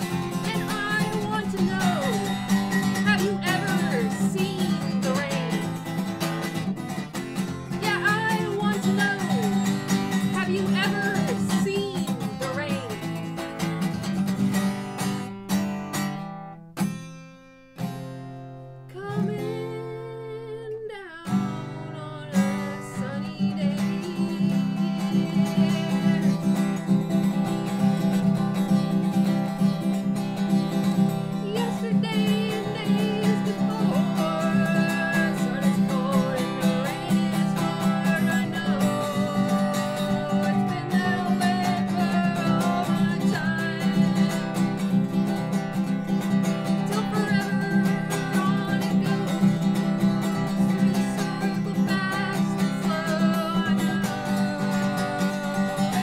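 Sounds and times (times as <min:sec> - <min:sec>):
woman singing: 0:00.0 - 0:14.4, 0:18.9 - 0:56.0
acoustic guitar strumming: 0:00.0 - 0:56.0.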